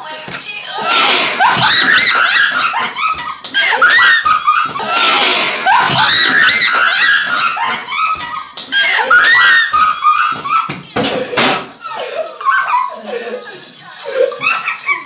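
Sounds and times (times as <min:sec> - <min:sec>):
girls shrieking and laughing: 0:00.7 - 0:15.0.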